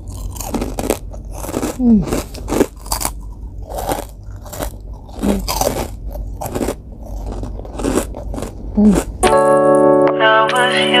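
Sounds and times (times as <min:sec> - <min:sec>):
crunchy chewing of fried food: 0:00.0 - 0:09.3.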